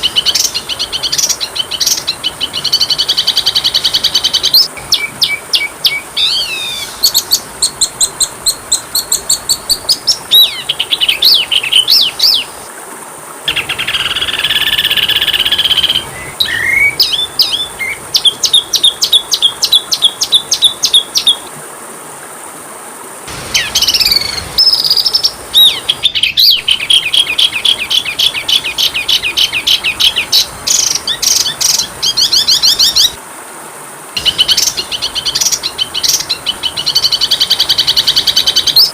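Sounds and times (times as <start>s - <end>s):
bird song with chirps and trills: 0.0s - 12.6s, 13.5s - 21.4s, 23.6s - 33.2s, 34.2s - 38.9s.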